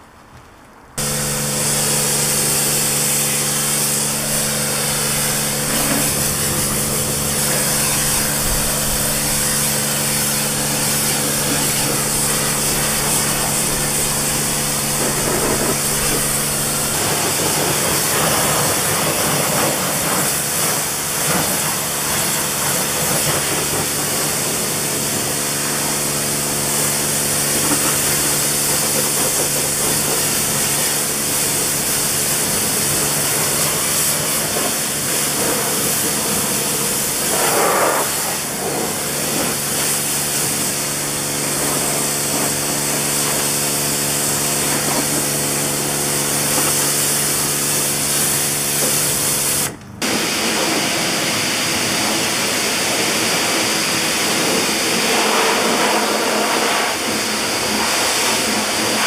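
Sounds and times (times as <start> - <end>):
motor and pump humming: 1.0 - 59.0
pressure washer spray hissing: 1.0 - 59.0.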